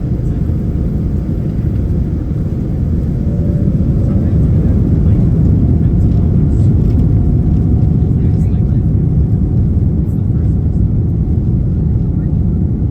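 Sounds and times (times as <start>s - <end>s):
jet engines rumbling: 0.0s - 12.9s.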